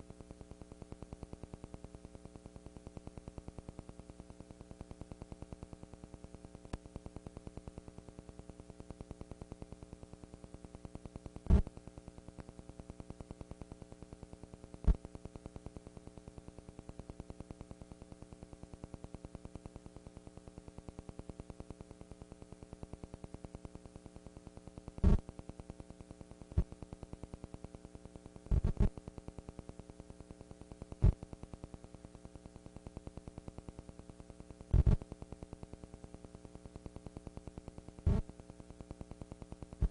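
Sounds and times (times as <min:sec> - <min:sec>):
electrical hum with buzzing: 0:00.0 - 0:39.9.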